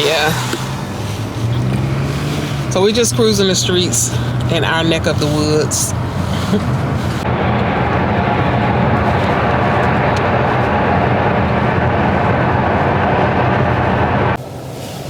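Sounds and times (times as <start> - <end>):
low engine hum: 0.0 - 15.0
tyre road noise: 0.0 - 15.0.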